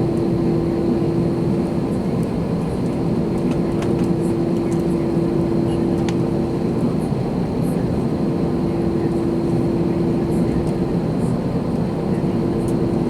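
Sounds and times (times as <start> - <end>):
airplane cabin engine noise: 0.0 - 13.0
constant humming tone: 0.0 - 13.0.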